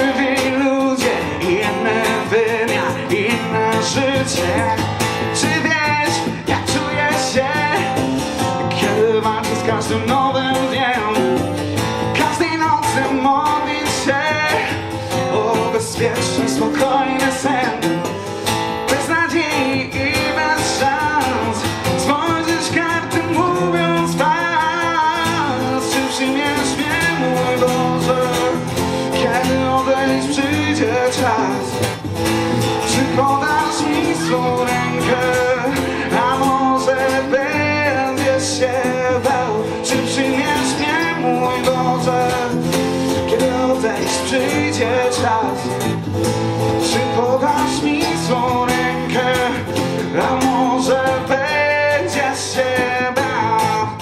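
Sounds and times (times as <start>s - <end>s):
acoustic guitar strumming: 0.0s - 54.0s
electric guitar playing: 0.0s - 54.0s.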